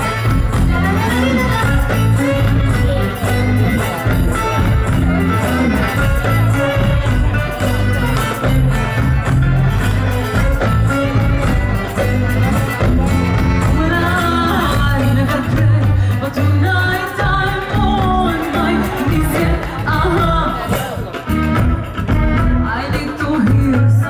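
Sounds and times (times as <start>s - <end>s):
person singing: 0.0s - 21.8s
live band playing: 0.0s - 24.0s.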